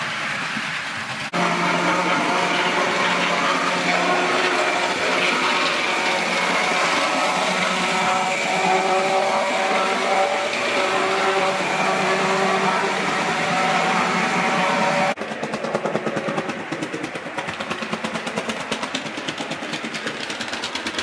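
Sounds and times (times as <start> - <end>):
model train wheels on rails: 0.0 - 21.0.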